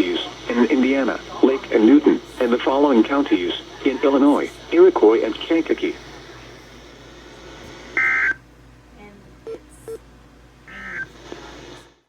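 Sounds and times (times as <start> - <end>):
radio hiss: 0.0 - 8.4, 9.5 - 12.0.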